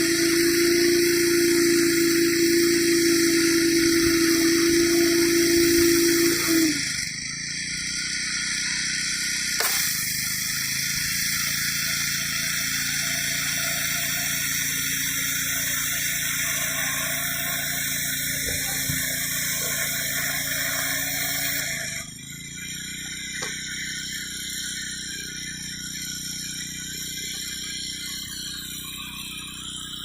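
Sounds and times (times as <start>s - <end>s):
pressure washer engine running: 0.0s - 30.0s
water jet hissing on concrete: 0.0s - 30.0s.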